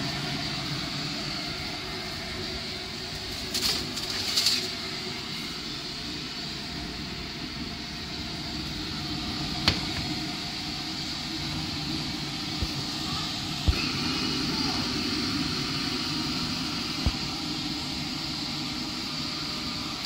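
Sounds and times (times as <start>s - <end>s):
kitchen appliance humming: 0.0s - 20.0s.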